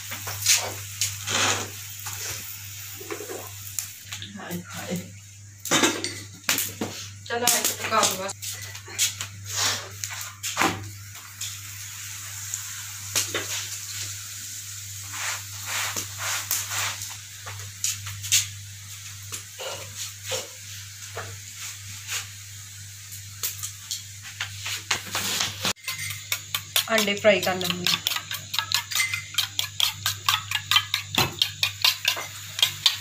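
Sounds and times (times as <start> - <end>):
flatbread sizzling on iron griddle: 0.0 - 33.0.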